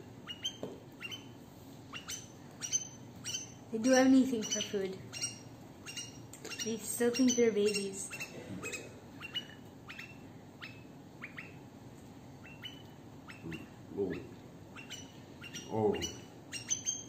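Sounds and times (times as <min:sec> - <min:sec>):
bird begging chirps: 0:00.2 - 0:11.6, 0:12.4 - 0:17.0.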